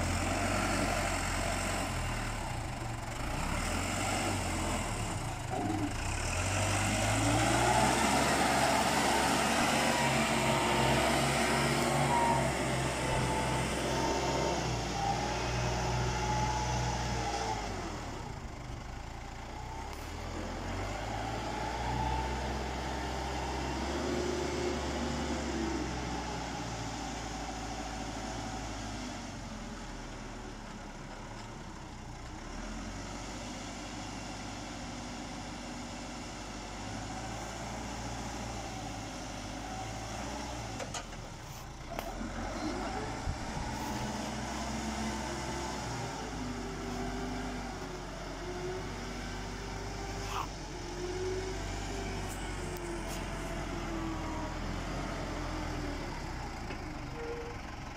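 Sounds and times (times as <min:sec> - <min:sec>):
diesel engine running: 0:00.0 - 0:33.4, 0:34.0 - 0:57.9.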